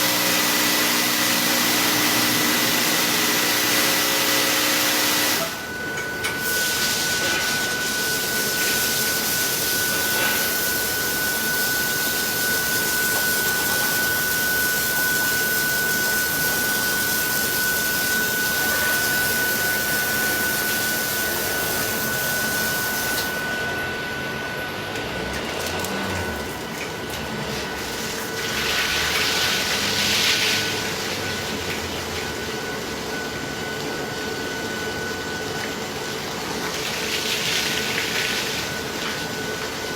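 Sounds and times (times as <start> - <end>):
water spraying: 0.0 - 23.4, 25.5 - 39.9
car wash machinery whining: 0.0 - 39.9.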